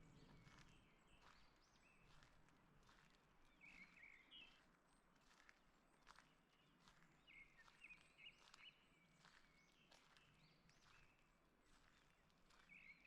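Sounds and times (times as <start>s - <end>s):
footsteps on forest path: 0.1s - 13.0s.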